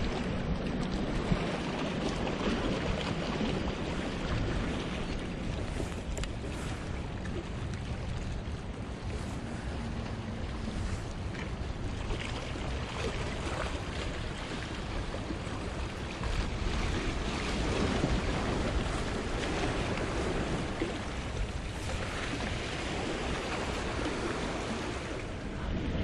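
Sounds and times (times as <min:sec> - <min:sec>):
waves splashing against rocks: 0:00.0 - 0:26.0
wind rumbling on microphone: 0:00.0 - 0:26.0.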